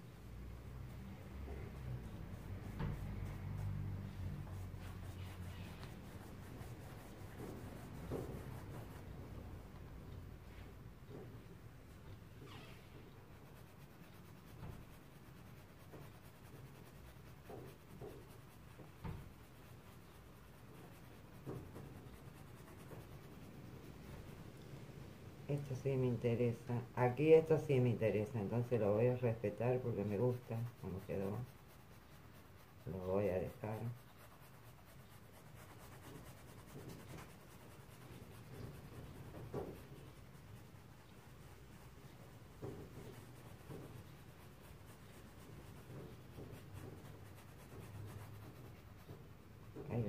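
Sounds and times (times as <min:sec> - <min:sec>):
low steady hum: 0:00.0 - 0:50.0
paintbrush strokes on canvas: 0:00.0 - 0:50.0.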